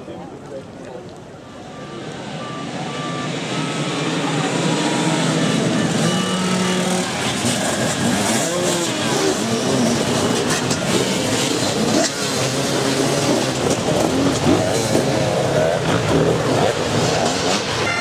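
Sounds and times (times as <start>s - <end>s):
dirt bikes revving: 1.7s - 18.0s.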